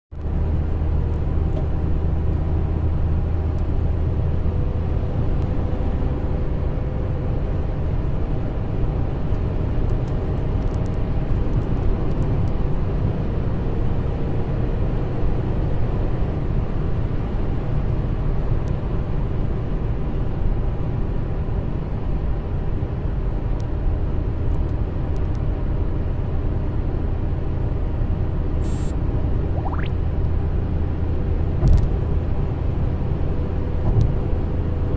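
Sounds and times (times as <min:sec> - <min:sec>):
car road noise: 0:00.1 - 0:34.9.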